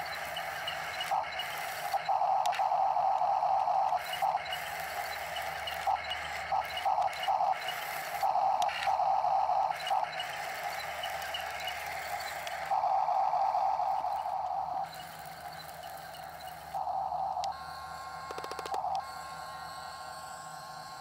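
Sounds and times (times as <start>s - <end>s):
toy electric motors whining: 0.0s - 21.0s.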